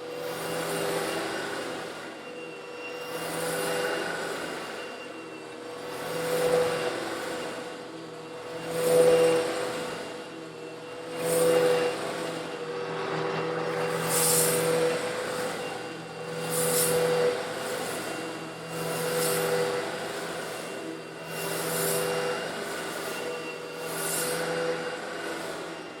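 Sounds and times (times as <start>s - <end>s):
vacuum cleaner motor hum: 0.0s - 26.0s.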